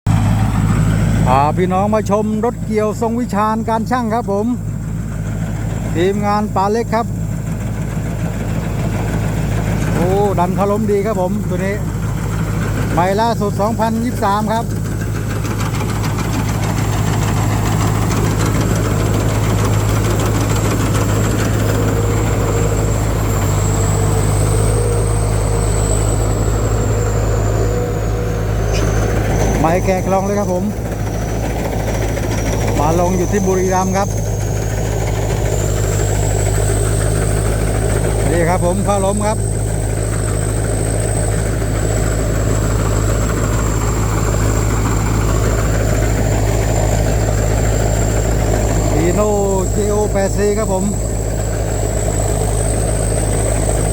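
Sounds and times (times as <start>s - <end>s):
diesel engine humming: 0.0s - 53.9s
high-pitched whine: 0.1s - 53.9s.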